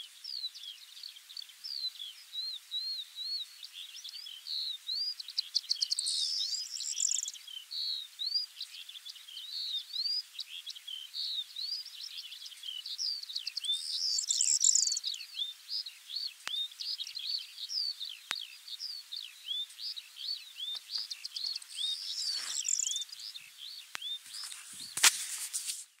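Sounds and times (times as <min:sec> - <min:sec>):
skylark singing: 0:00.0 - 0:25.0.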